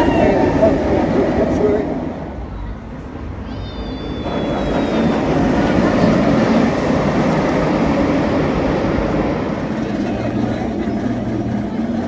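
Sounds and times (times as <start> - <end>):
roller coaster train roaring past: 0.0 - 12.0.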